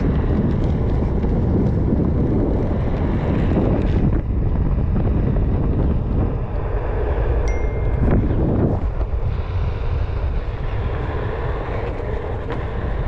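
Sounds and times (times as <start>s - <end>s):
skateboard wheels rolling on asphalt: 0.0s - 13.0s
wind buffeting microphone: 0.0s - 13.0s.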